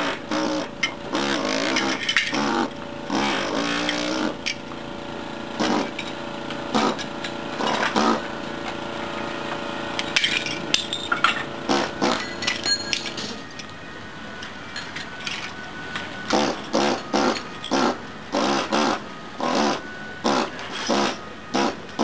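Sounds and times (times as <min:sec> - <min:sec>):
air hammer chipping tiles: 0:00.0 - 0:13.6, 0:14.8 - 0:22.0.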